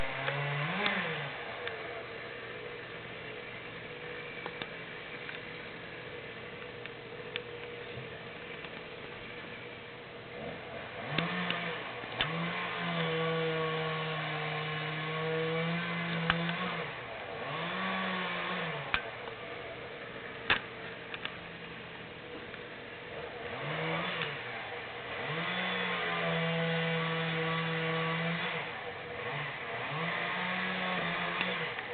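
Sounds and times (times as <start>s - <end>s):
chainsaw revving: 0.0s - 31.9s.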